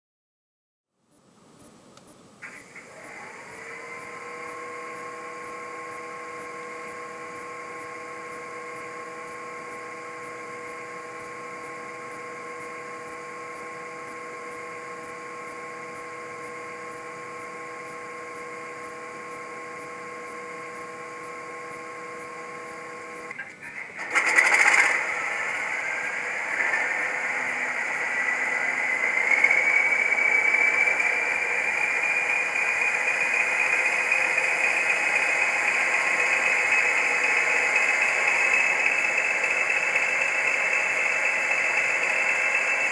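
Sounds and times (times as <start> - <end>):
steady speaker hum: 1.0 - 38.2
diesel engine starting and running: 2.4 - 42.9
turbocharger whine: 2.4 - 42.9.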